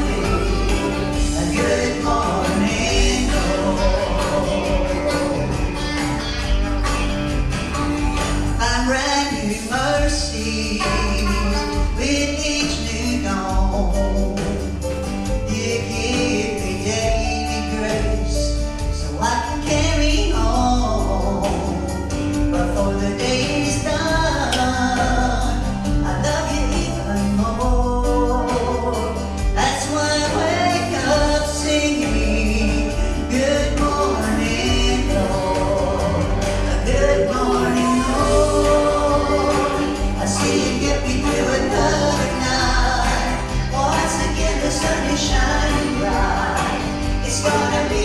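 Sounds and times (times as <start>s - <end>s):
vocal group singing in harmony: 0.0s - 19.7s, 20.7s - 48.0s
instrumental accompaniment with bass: 0.0s - 48.0s.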